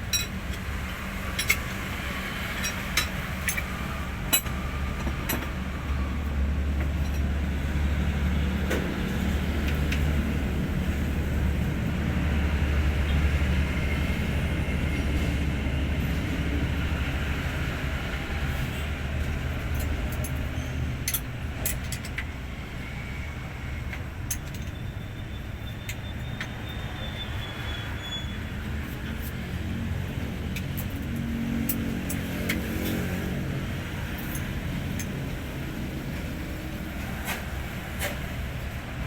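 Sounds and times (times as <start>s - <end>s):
truck diesel engine rumbling: 0.0s - 39.0s.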